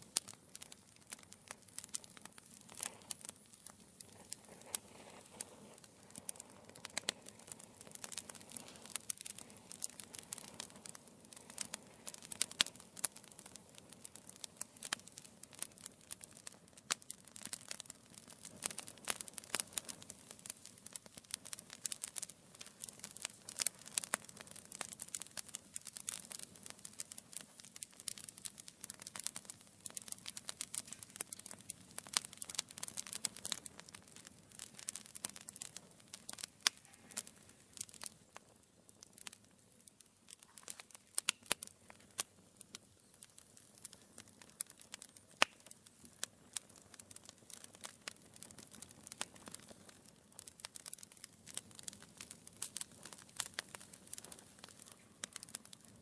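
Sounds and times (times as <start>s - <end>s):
soft hiss of flame: 0.0s - 56.0s
wood fire crackling and popping: 0.0s - 56.0s.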